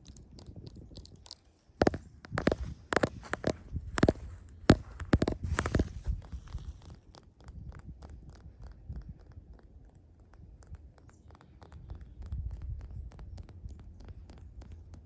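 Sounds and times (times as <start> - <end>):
small crackling clicks: 0.0 - 15.0.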